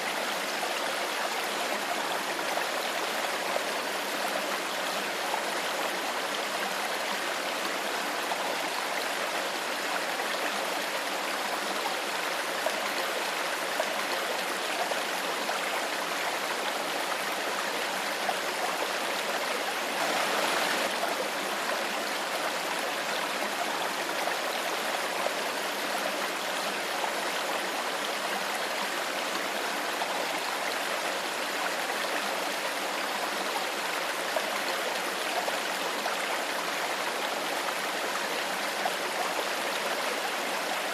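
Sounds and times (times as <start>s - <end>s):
stream water burbling: 0.0s - 40.9s.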